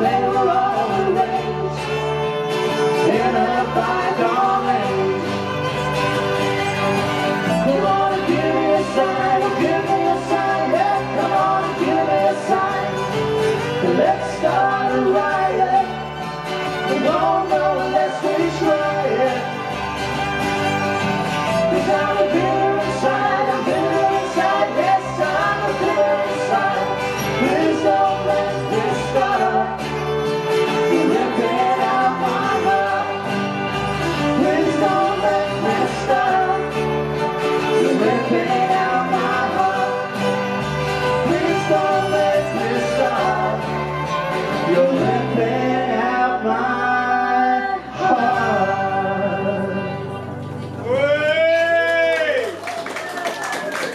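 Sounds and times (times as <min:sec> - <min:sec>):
live band playing: 0:00.0 - 0:51.2.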